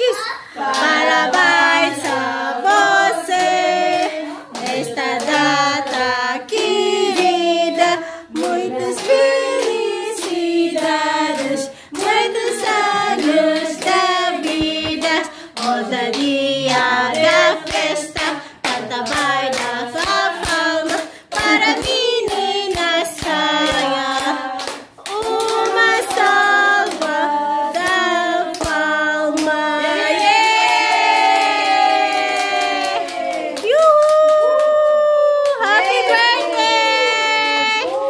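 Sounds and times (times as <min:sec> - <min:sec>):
group singing: 0:00.6 - 0:34.1, 0:35.6 - 0:38.0
hand clapping: 0:00.7 - 0:36.9.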